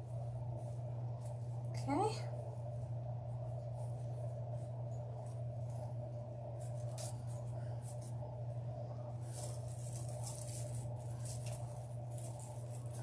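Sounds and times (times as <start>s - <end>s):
ribbon rustling and crinkling: 0.0s - 13.0s
steady low hum: 0.0s - 13.0s.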